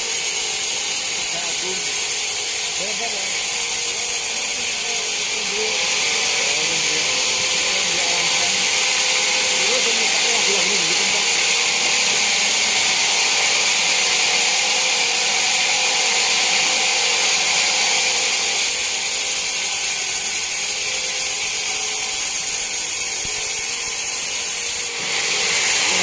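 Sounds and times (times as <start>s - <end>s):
band saw running: 0.0s - 26.0s.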